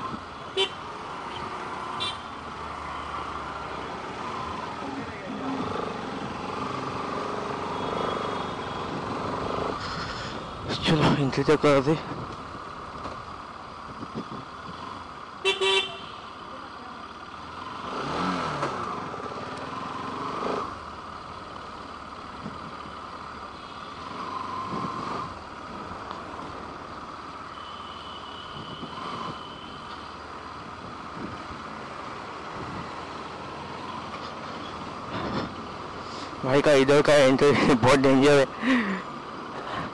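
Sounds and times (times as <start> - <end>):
vehicle engines running: 0.0 - 39.9.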